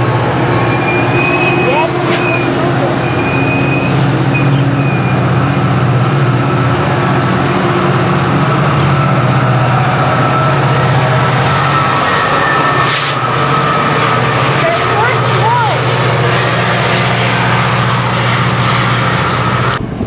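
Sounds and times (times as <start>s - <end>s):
diesel locomotive passing: 0.0s - 20.0s
train wheels on rails: 0.0s - 20.0s.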